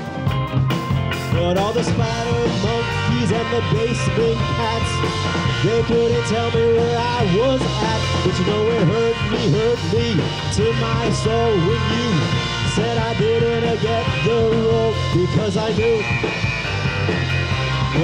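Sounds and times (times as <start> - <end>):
drum kit: 0.0 - 18.0
electric bass: 0.0 - 18.0
electric guitars: 0.0 - 18.0
man singing lead vocal: 1.3 - 16.4.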